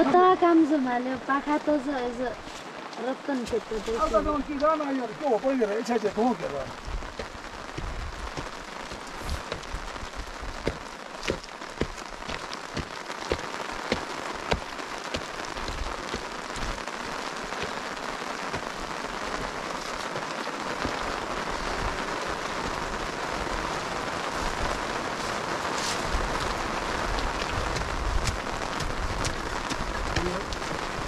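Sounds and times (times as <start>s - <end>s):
rain hissing on tarp: 0.0s - 31.0s
sharp raindrop taps: 1.7s - 25.0s, 25.7s - 31.0s.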